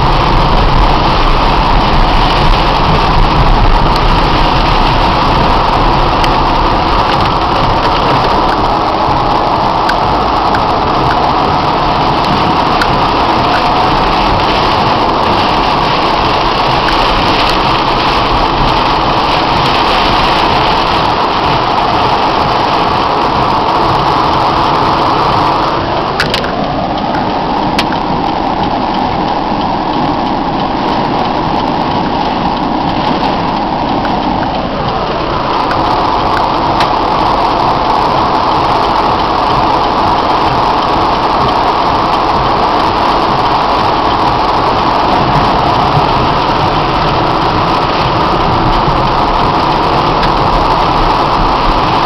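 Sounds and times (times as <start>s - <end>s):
car engine: 0.0s - 52.0s
heavy rain on car roof: 0.0s - 52.0s
tyres on flooded road: 0.0s - 52.0s.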